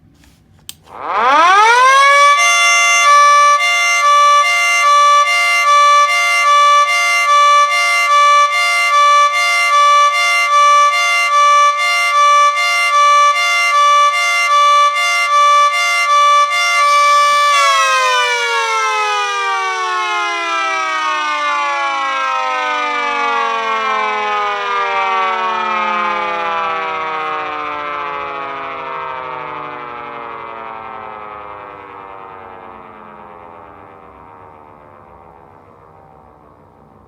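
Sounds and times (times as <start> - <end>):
siren winding down: 0.8 - 37.0
two-tone siren warbling: 0.9 - 37.0.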